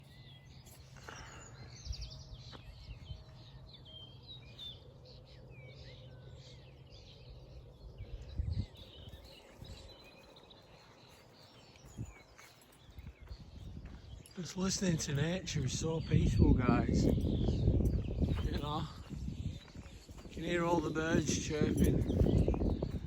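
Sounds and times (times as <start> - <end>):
flock of birds chirping: 0.0 - 23.0.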